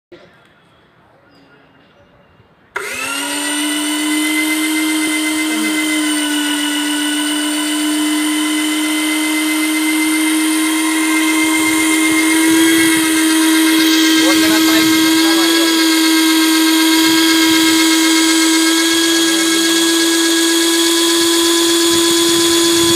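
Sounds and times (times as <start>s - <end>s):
paint sprayer pump motor running: 2.8s - 22.9s.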